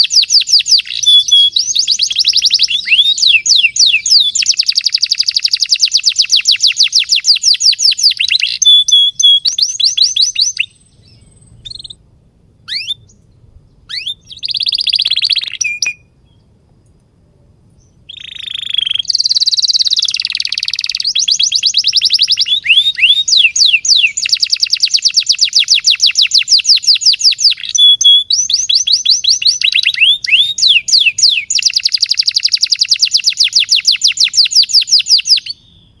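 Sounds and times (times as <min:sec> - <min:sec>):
canary singing trills: 0:00.0 - 0:12.0, 0:12.6 - 0:16.5, 0:17.8 - 0:36.0.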